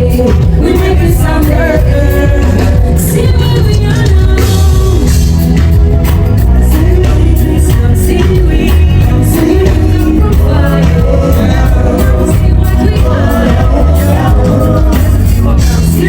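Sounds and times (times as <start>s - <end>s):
amplified music with singing: 0.0s - 16.0s
heavy steady bass: 0.0s - 16.0s.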